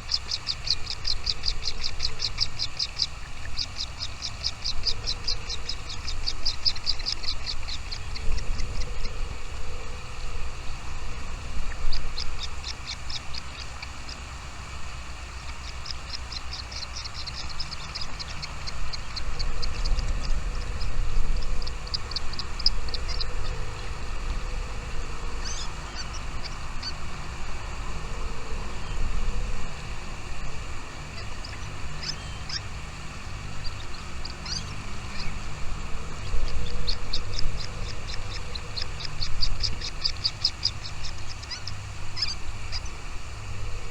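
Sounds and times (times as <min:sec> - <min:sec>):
small birds chirping: 0:00.0 - 0:43.9
steady low rumble: 0:00.0 - 0:43.9.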